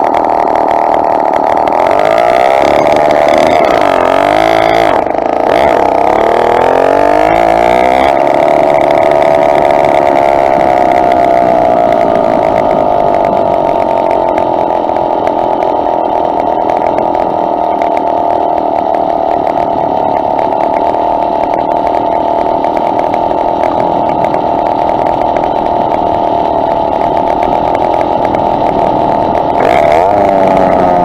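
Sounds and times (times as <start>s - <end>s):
two-stroke bicycle engine running: 0.0s - 31.0s.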